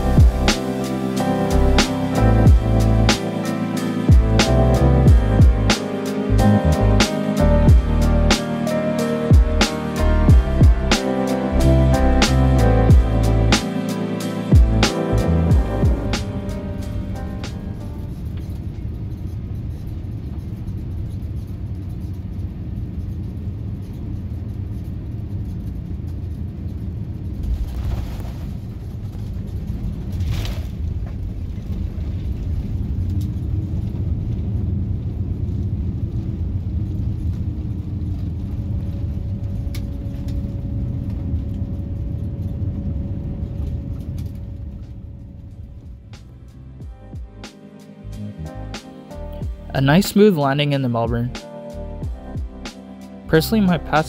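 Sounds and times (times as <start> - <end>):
airplane cabin engine rumble: 0.0 - 46.8.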